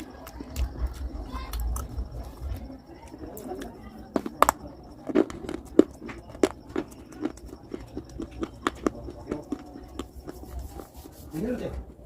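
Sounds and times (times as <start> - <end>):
crunching of clay being chewed: 0.0 - 11.2.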